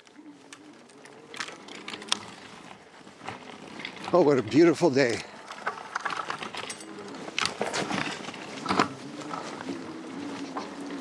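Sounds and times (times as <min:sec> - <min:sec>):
bike tyres crunching on gravel: 0:00.0 - 0:11.0.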